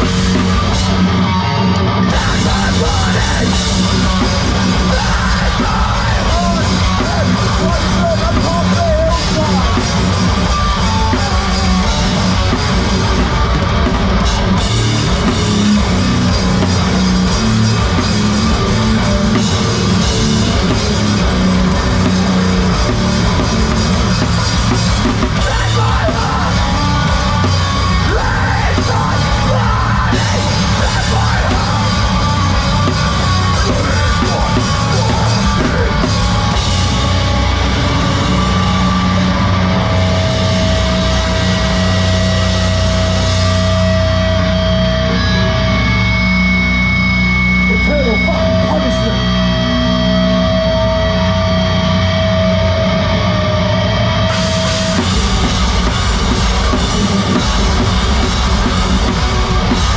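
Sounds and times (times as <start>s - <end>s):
yelled vocals: 0.0s - 46.3s, 47.6s - 59.9s
drum kit: 0.0s - 59.9s
heavy rock band playing: 0.0s - 59.9s.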